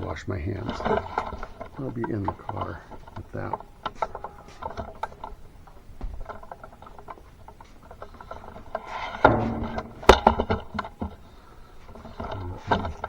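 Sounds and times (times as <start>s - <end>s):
hard objects being handled: 0.0s - 13.0s
loud clunk: 0.7s - 13.0s.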